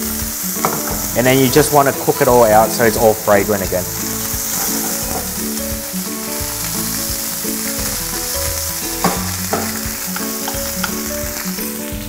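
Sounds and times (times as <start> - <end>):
curry paste sizzling in pan: 0.0 - 12.0
quiet background music: 0.0 - 12.0.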